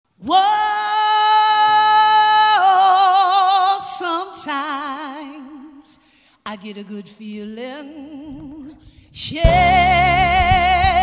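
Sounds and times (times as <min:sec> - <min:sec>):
person singing with vibrato: 0:00.2 - 0:11.0.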